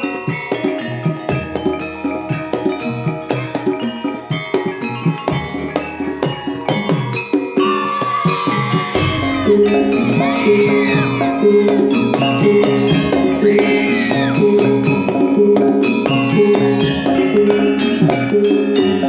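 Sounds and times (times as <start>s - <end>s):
drums and metal percussion: 0.0s - 19.0s
high melody with bending pitch: 0.0s - 19.0s.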